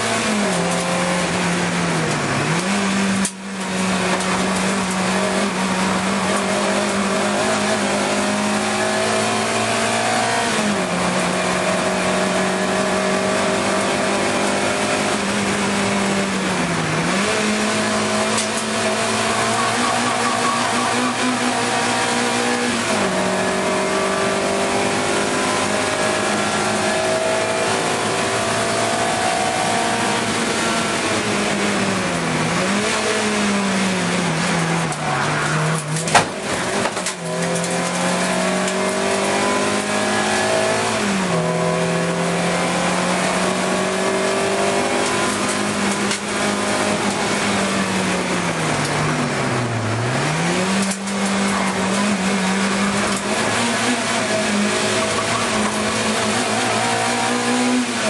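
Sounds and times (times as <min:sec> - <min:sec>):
race car engine under load: 0:00.0 - 0:58.0.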